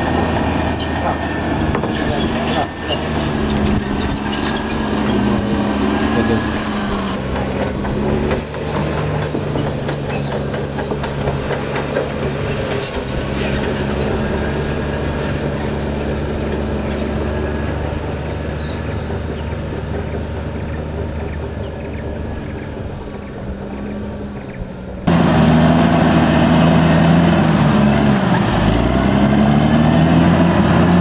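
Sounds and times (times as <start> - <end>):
steel tracks clattering: 0.0 - 25.6
high steady squeal: 0.0 - 25.8, 26.5 - 30.0
bulldozer diesel engine under load: 0.0 - 31.0.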